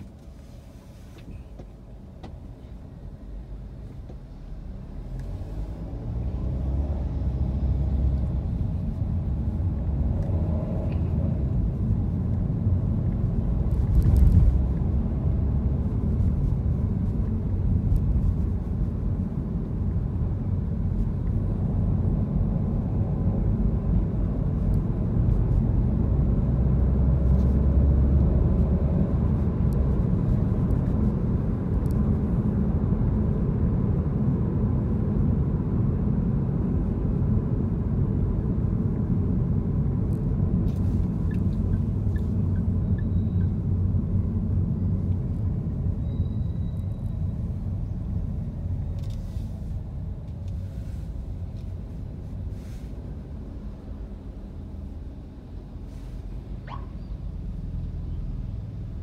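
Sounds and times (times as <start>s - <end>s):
car cabin road and engine rumble: 0.0s - 59.0s.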